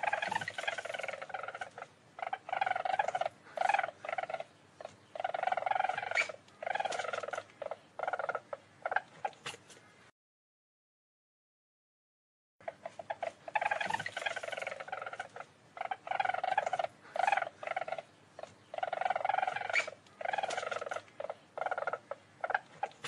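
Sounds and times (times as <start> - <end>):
weasel chattering: 0.0 - 9.7, 12.6 - 23.0.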